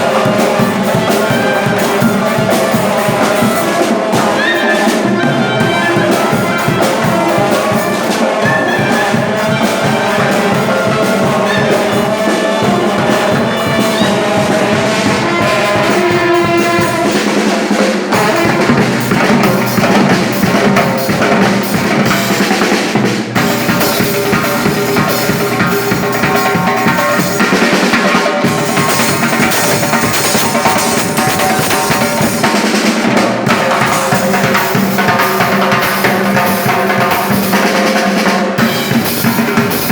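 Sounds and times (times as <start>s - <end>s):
drum kit beat: 0.0s - 39.9s
loud band music: 0.0s - 39.9s.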